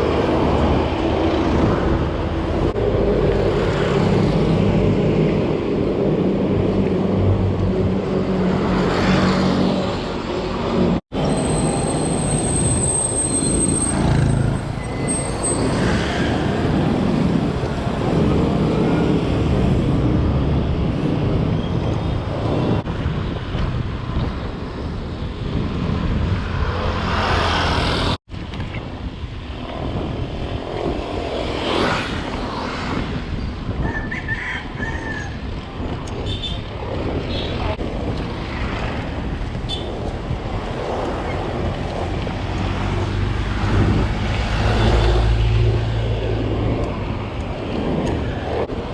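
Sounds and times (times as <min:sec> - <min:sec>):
motor traffic: 0:00.0 - 0:48.9
road noise: 0:00.0 - 0:48.9
rumbling wind: 0:00.0 - 0:48.9.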